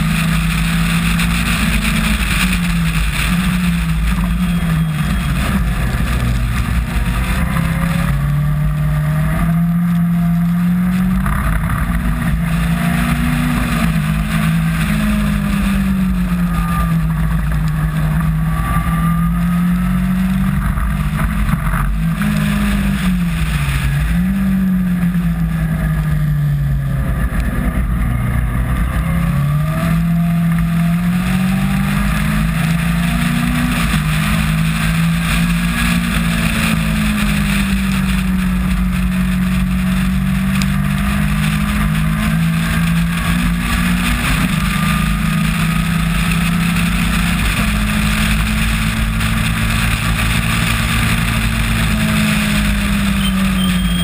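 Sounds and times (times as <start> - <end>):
race car engine revving: 0.0 - 54.0
wind rush and road spray: 0.0 - 54.0.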